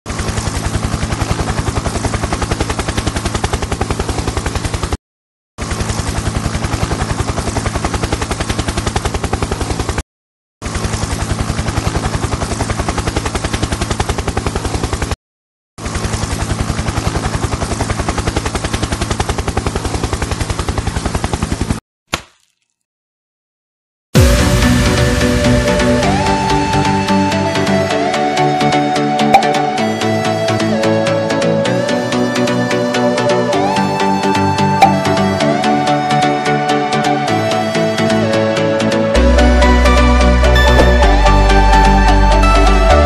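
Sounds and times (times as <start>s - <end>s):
helicopter rotor chop: 0.1s - 5.0s, 5.6s - 10.0s, 10.6s - 15.2s, 15.8s - 21.8s, 24.2s - 37.3s, 38.8s - 42.9s.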